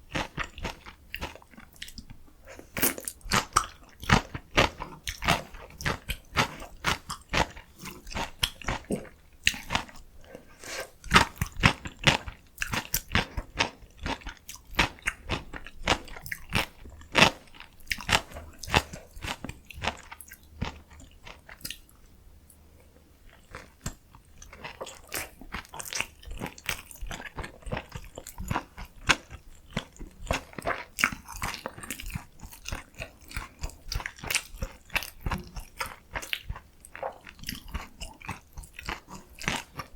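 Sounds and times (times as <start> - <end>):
chewing with sharp crunches: 0.1 - 22.0, 23.3 - 39.9.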